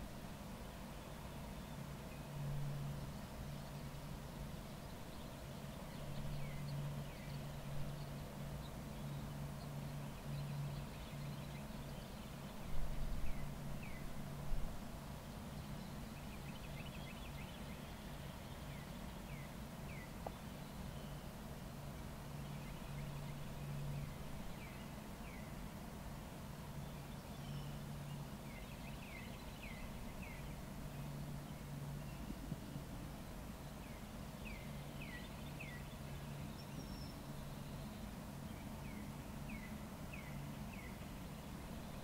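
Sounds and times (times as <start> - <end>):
steady low hum: 0.0 - 42.0
small birds chirping: 0.7 - 25.7, 26.6 - 42.0.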